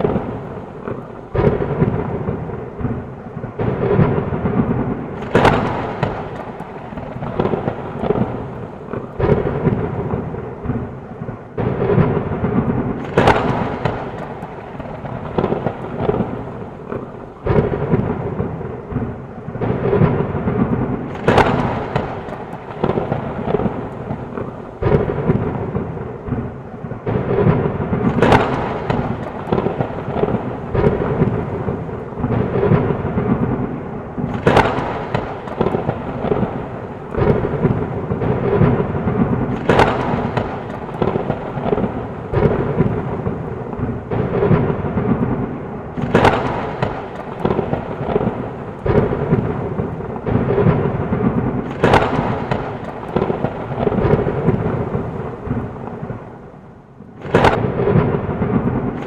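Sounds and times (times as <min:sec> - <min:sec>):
heavy rain: 0:00.0 - 0:59.0
thunderclaps: 0:00.0 - 0:59.0.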